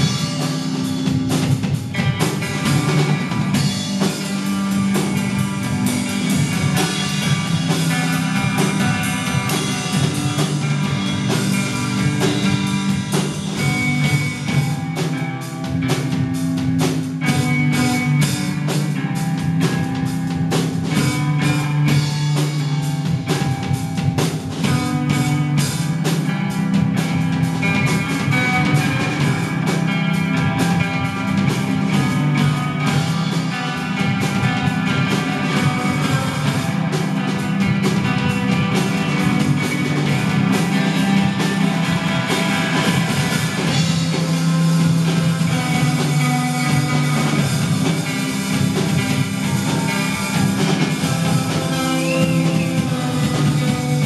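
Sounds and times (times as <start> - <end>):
drum kit with cymbals: 0.0 - 54.0
loud electric guitar: 0.0 - 54.0.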